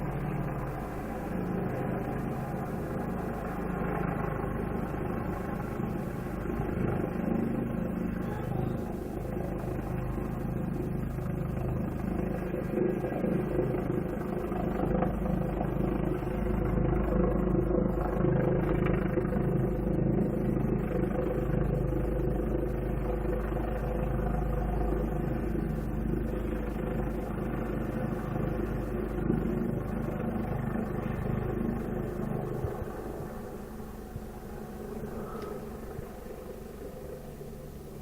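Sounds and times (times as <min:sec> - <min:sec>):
helicopter rotor drone: 0:00.0 - 0:38.0.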